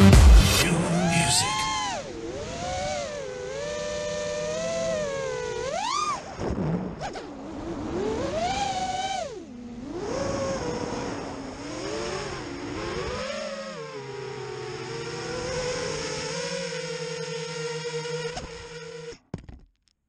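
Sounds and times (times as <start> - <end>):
quadcopter motors whining: 0.8 - 6.4, 7.0 - 19.2.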